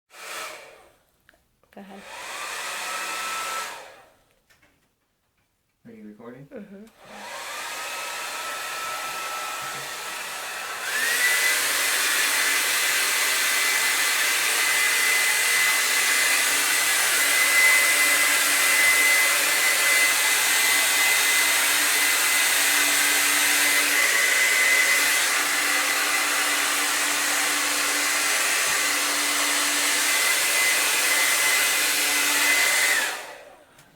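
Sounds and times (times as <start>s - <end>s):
blow dryer running: 0.1s - 0.9s, 2.0s - 4.2s, 7.0s - 33.9s.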